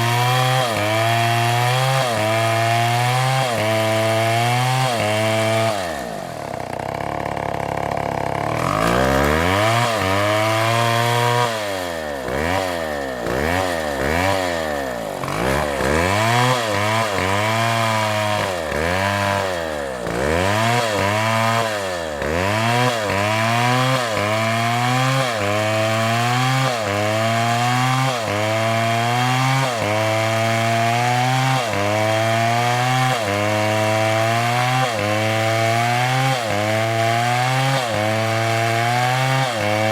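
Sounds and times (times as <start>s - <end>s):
chainsaw engine cutting: 0.0s - 39.9s.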